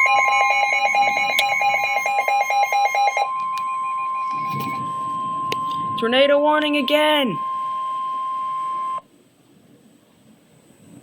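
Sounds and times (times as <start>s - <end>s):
fast pulsing electronic beep: 0.0s - 9.0s
steady warning alarm tone: 0.0s - 9.1s.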